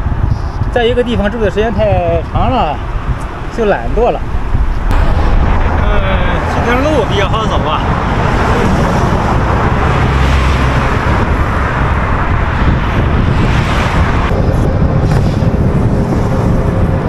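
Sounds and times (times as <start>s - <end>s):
passing traffic: 0.0s - 17.0s
rushing road noise: 0.0s - 17.0s
wind on microphone: 0.0s - 17.0s.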